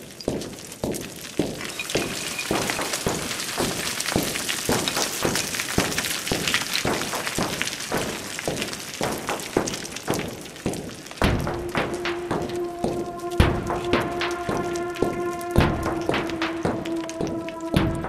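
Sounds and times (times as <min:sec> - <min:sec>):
boots crunching on scree: 0:00.2 - 0:18.0.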